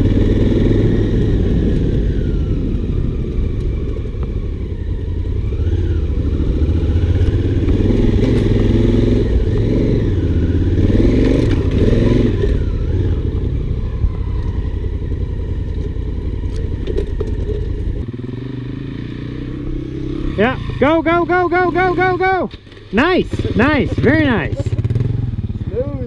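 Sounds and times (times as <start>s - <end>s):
motorcycle engine revving: 0.0s - 26.0s
motorcycle rattling on rough ground: 0.0s - 26.0s.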